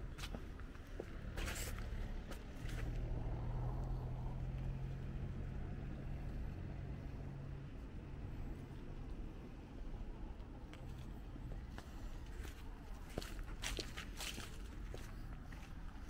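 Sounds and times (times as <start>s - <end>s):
passing vehicle engine hum: 0.0s - 16.0s.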